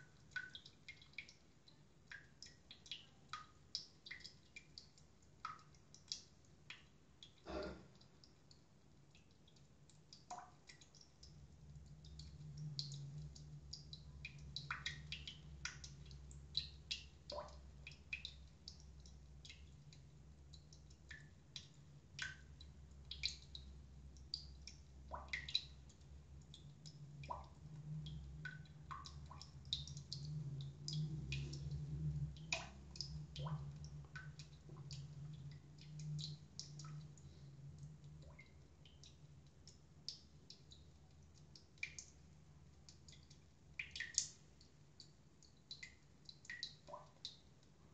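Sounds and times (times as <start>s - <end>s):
small clicks and ticks: 0.0s - 47.9s.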